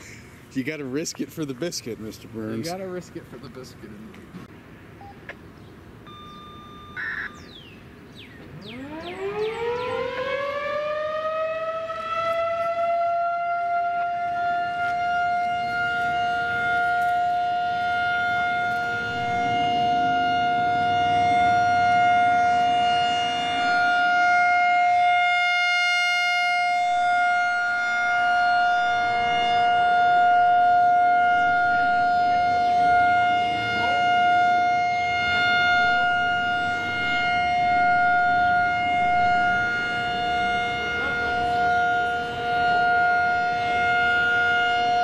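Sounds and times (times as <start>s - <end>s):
rotating warning siren: 6.0s - 45.0s.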